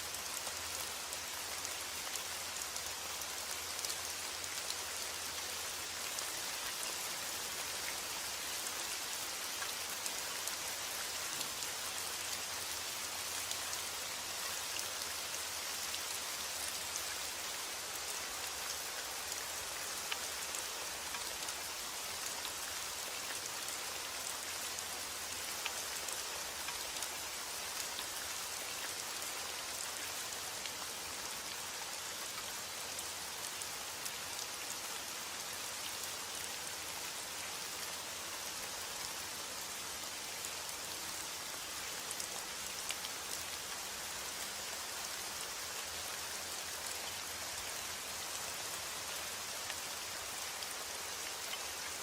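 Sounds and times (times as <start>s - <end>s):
rain falling on a surface: 0.0s - 52.0s.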